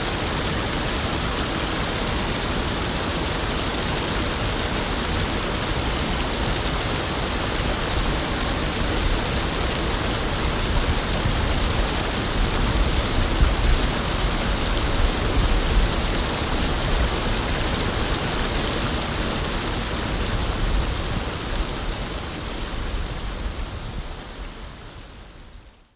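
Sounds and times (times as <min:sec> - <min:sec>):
stream rushing over rocks: 0:00.0 - 0:25.8.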